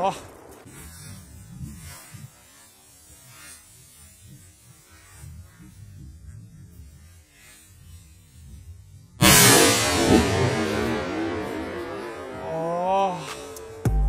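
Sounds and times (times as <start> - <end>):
firecracker crackling: 0.0 - 14.0.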